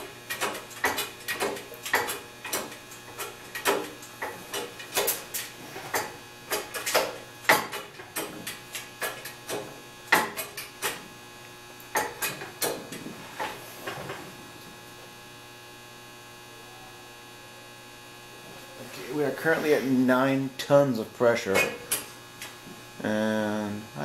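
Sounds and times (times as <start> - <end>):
mains hum: 0.0 - 24.0.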